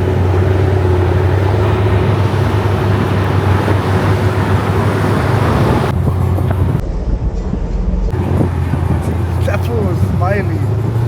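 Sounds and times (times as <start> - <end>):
car engine drone: 0.0 - 11.0
road and tyre noise: 0.0 - 11.0.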